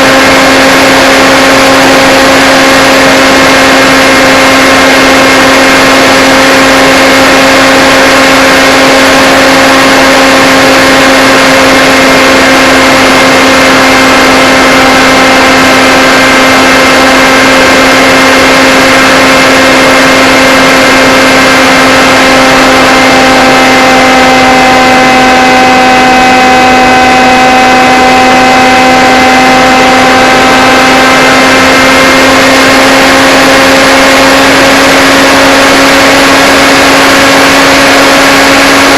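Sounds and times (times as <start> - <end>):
drone motor and propeller whine: 0.0 - 38.9
higher tone: 0.0 - 38.9
rushing air: 0.0 - 38.9.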